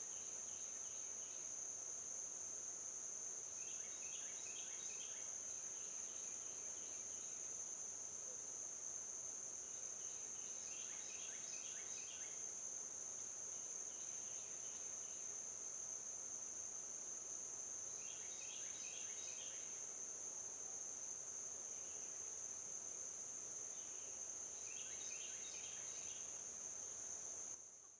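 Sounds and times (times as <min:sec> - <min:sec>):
high-pitched insect chorus: 0:00.0 - 0:27.9
rapid insect chirps: 0:00.0 - 0:27.9.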